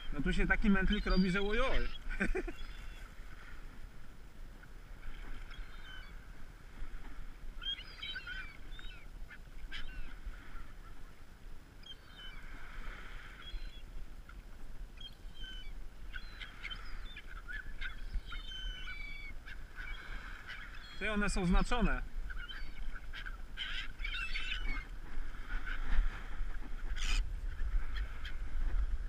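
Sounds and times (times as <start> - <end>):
gulls calling: 0.0 - 3.2, 5.0 - 6.3, 7.6 - 11.2, 11.8 - 13.9, 15.0 - 28.9.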